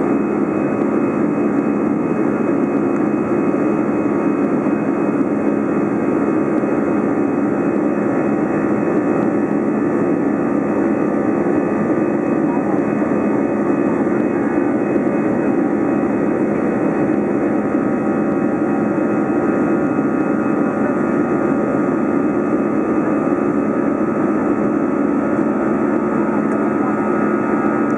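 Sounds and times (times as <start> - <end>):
jet engines roaring in cabin: 0.0 - 27.9
steady whining tones: 0.0 - 27.9.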